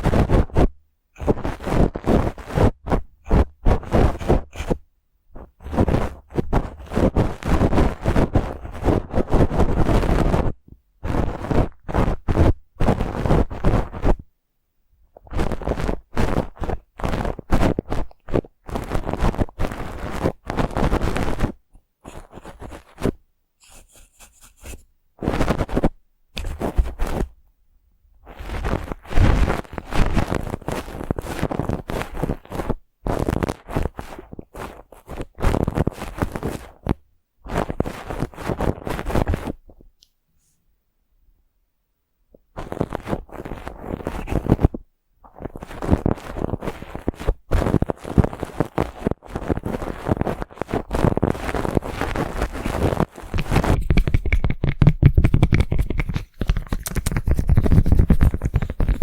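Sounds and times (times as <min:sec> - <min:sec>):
brush bristles scraping microphone: 0:00.0 - 0:14.2, 0:15.3 - 0:27.4, 0:28.2 - 0:39.7, 0:42.5 - 0:59.0.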